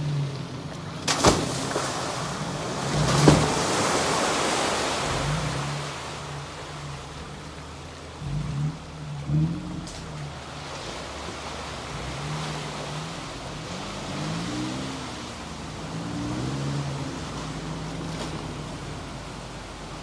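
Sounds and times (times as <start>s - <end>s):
suv engines revving: 0.0s - 20.0s.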